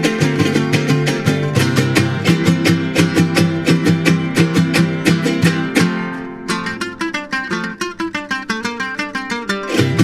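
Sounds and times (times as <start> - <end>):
plucked string notes: 0.0 - 10.0
strummed string ensemble: 0.0 - 10.0.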